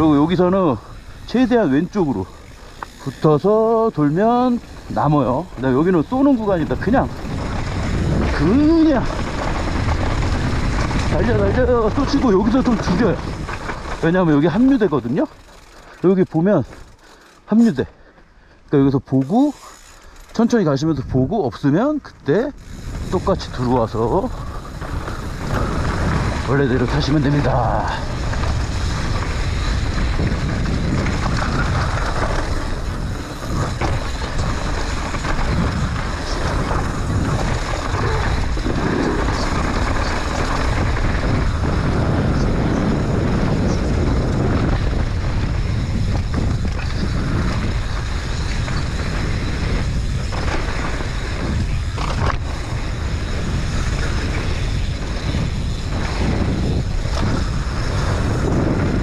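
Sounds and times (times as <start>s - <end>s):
wind buffeting microphone: 0.0s - 17.0s, 20.6s - 59.0s
bike rattling: 0.0s - 59.0s
bike tyres rumbling on dirt: 0.0s - 59.0s.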